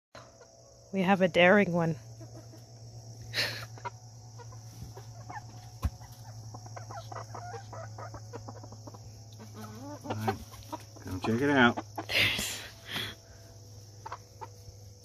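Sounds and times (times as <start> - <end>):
steady low hum: 0.2 - 15.0
chickens clucking softly: 2.1 - 15.0.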